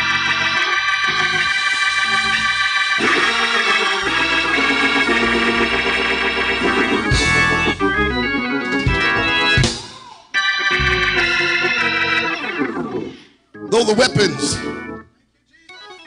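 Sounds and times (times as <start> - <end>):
organ playing sustained chords: 0.0 - 9.7, 10.4 - 12.8, 13.6 - 15.1.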